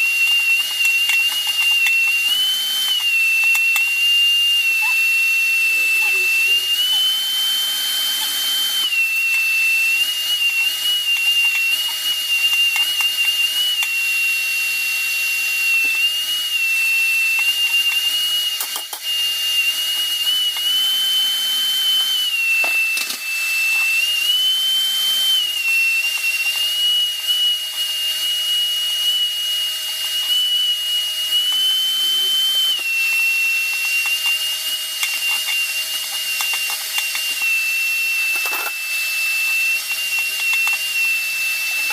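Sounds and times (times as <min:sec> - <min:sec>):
vacuum cleaner whining: 0:00.0 - 0:41.9.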